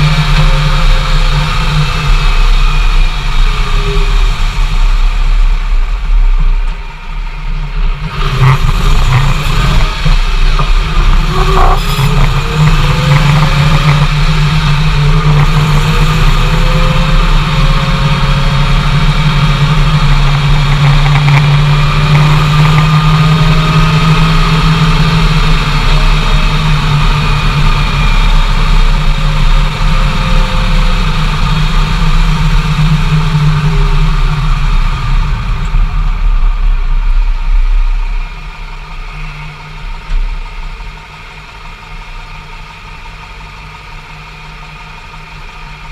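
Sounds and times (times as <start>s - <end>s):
drivetrain whine: 0.0s - 45.9s
truck engine drone: 0.0s - 45.9s.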